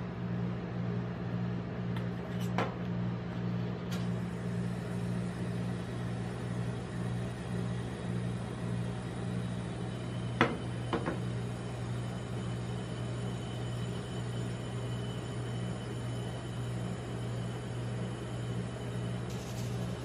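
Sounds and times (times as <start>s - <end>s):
refrigeration unit humming: 0.0s - 20.0s.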